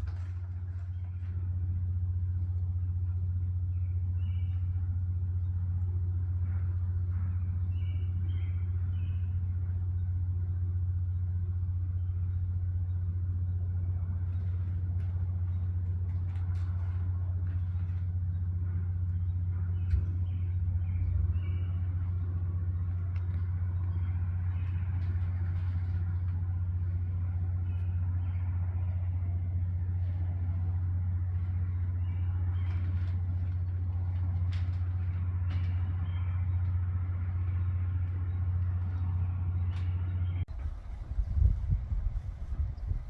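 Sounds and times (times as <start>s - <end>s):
low engine hum: 0.0s - 43.0s.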